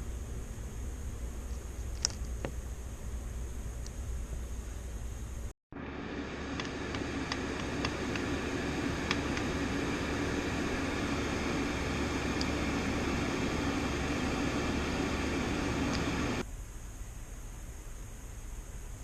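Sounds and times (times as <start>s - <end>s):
air heater blower whooshing: 0.0s - 16.4s
low hum: 0.0s - 18.9s.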